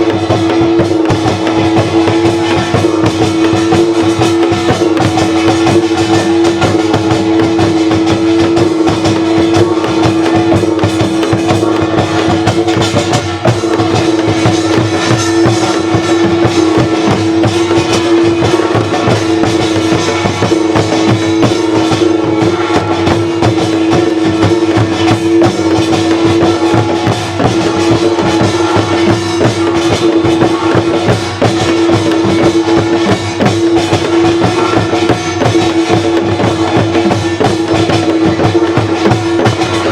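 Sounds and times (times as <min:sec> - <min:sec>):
drums beating a dense rhythm: 0:00.0 - 0:39.9.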